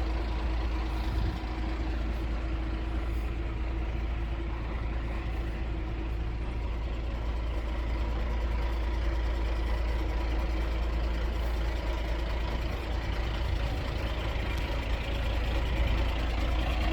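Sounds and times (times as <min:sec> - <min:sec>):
truck diesel engine idling: 0:00.0 - 0:16.9.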